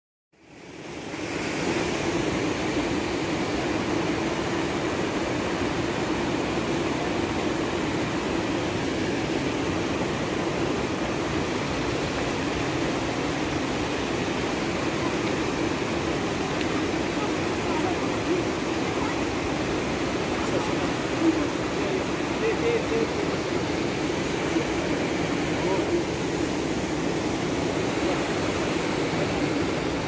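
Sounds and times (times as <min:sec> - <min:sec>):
fast river rushing: 0:00.4 - 0:30.0.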